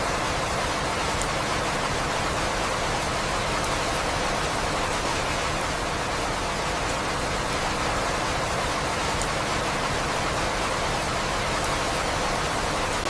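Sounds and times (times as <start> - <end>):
dense rainfall: 0.0 - 13.0.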